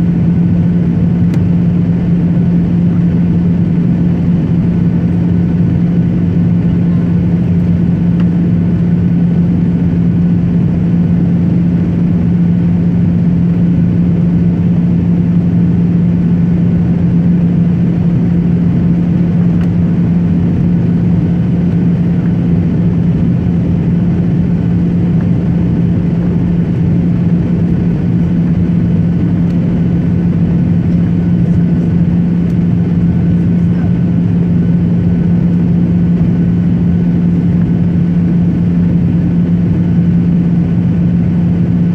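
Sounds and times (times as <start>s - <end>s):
airliner engines droning: 0.0s - 41.9s.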